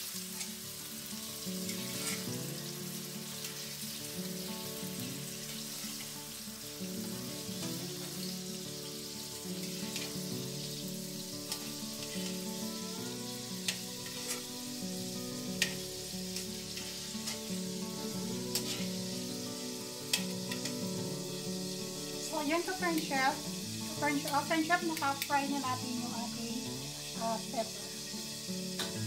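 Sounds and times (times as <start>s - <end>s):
background music: 0.0s - 29.0s
peppers sizzling in hot oil: 0.0s - 29.0s.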